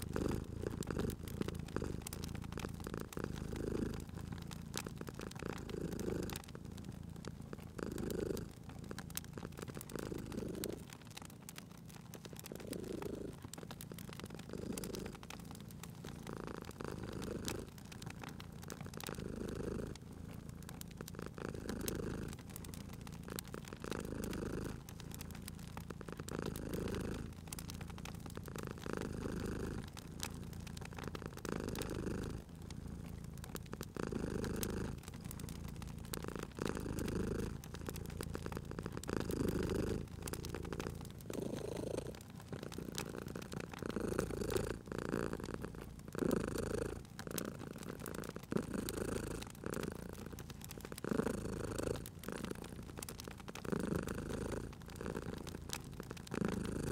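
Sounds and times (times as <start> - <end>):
cat purring: 0.0 - 56.9
wood fire crackling: 0.0 - 56.9.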